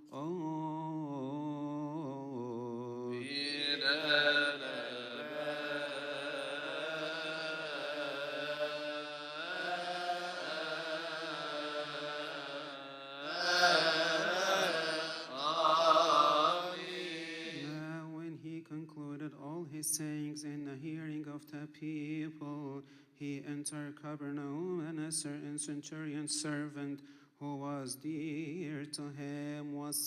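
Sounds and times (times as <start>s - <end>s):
man singing liturgical chant: 0.0s - 30.0s.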